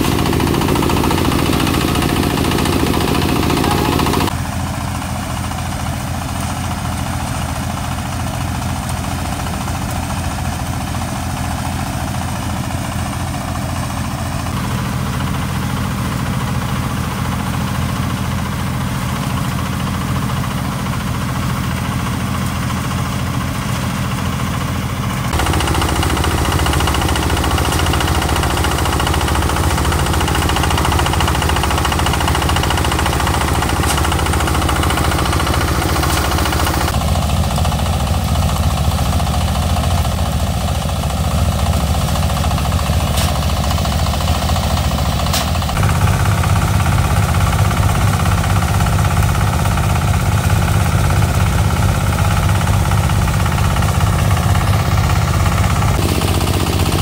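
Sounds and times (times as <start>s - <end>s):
engine running with rapid knocking: 0.0s - 57.0s.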